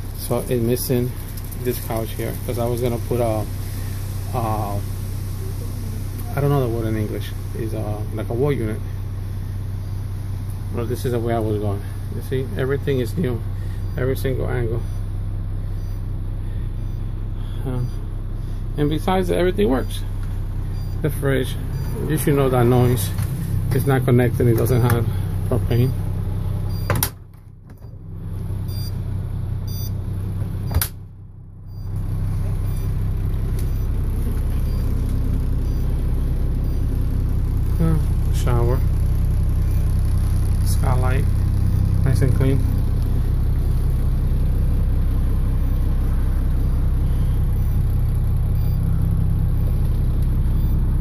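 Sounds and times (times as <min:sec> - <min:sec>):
diesel engine idling: 0:00.0 - 0:51.0
low mechanical hum: 0:00.0 - 0:51.0.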